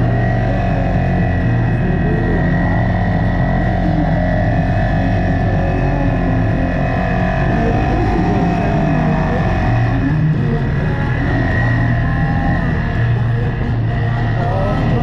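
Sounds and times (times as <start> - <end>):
atv engine running: 0.0 - 15.0
music with vocals: 0.0 - 15.0.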